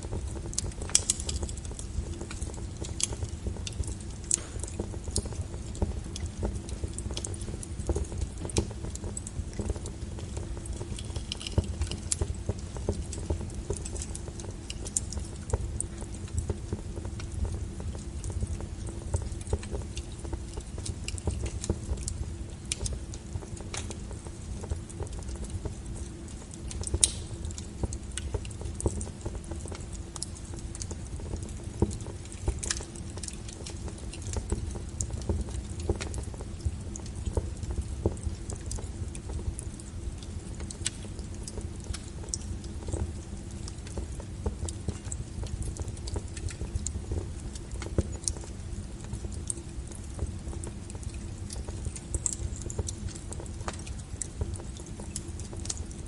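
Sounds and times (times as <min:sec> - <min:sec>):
low rumble of burning logs: 0:00.0 - 0:56.0
wood fire popping and snapping: 0:00.0 - 0:56.0.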